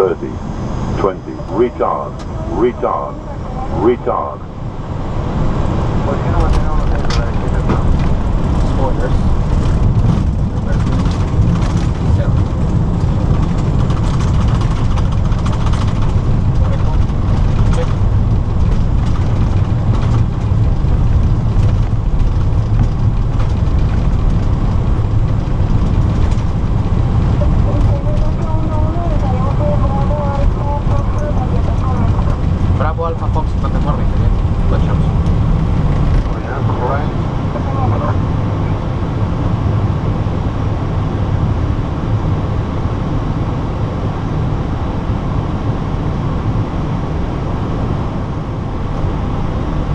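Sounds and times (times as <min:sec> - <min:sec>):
tyres and landing gear rumbling: 0:00.0 - 0:40.0
jet engine and airflow noise: 0:00.0 - 0:49.9.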